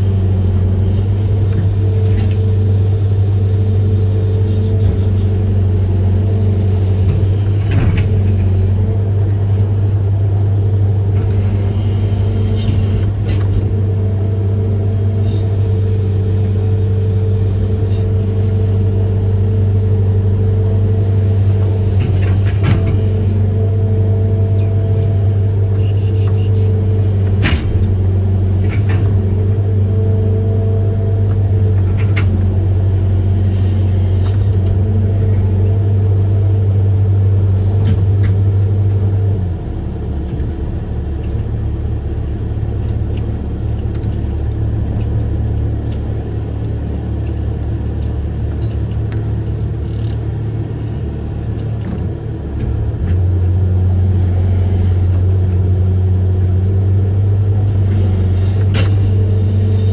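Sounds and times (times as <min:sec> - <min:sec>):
diesel engine low hum: 0:00.0 - 0:59.9.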